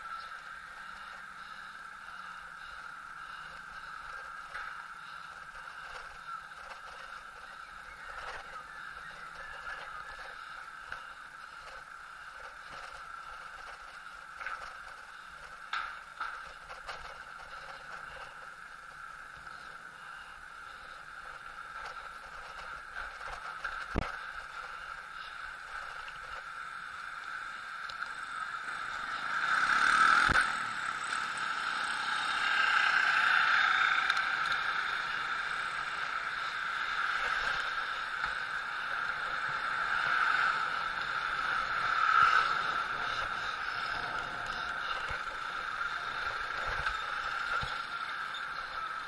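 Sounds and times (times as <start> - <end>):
bicycle wheels whirring: 0.0 - 49.0
passing motorbikes and cars: 0.0 - 49.0.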